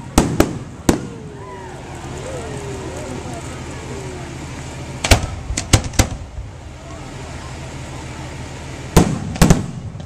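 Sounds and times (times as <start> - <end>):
fireworks bursting with bangs: 0.0 - 10.0.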